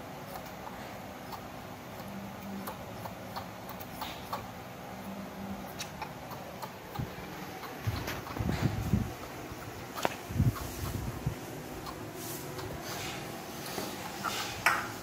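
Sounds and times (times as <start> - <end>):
baby monkey sucking on bottle: 0.0 - 15.0.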